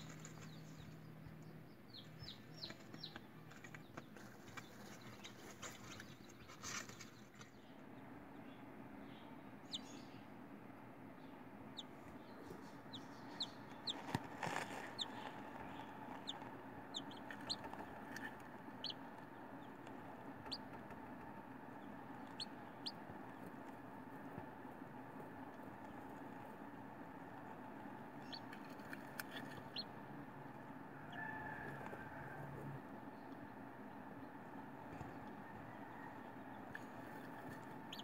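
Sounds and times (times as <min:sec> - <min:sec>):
chicks peeping: 0:00.0 - 0:38.0
faint steady hum: 0:00.0 - 0:38.0.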